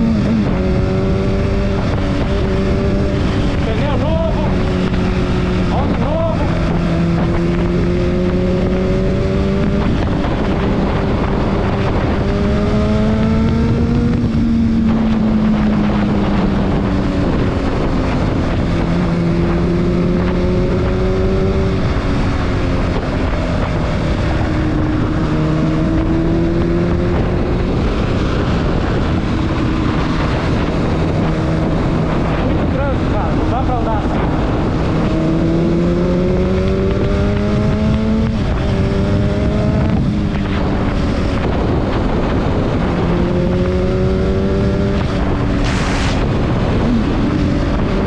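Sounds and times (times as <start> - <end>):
motorcycle engine cruising: 0.0 - 48.0
wind noise on microphone: 0.0 - 48.0.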